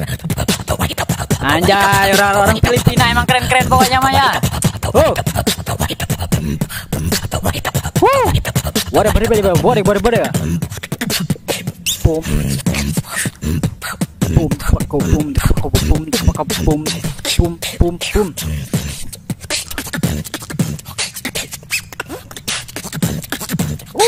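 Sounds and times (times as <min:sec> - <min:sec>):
boy beatboxing: 0:00.0 - 0:24.0
sliding vocal tones: 0:00.0 - 0:24.0.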